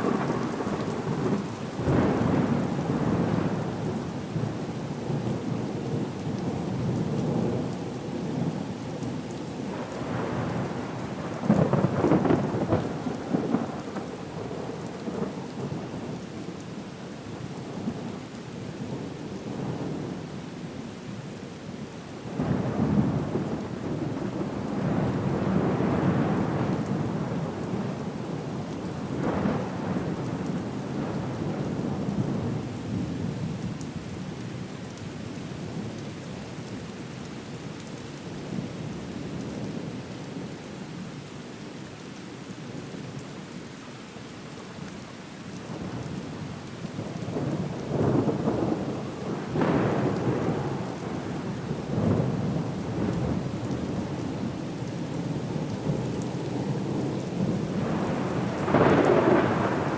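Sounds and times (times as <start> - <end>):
rain: 0.0 - 59.9.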